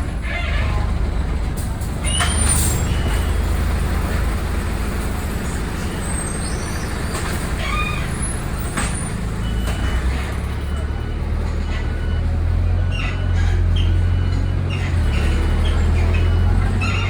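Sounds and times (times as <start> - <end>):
bus body squealing: 0.0 - 17.0
bus engine low drone: 0.0 - 17.0.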